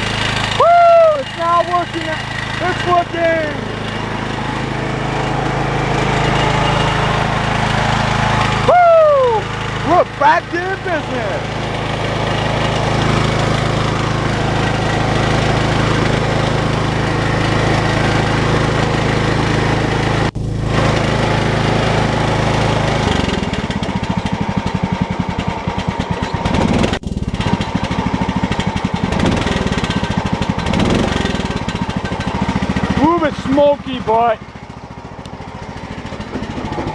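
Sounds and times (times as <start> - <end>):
lawn tractor engine running: 0.0 - 36.9.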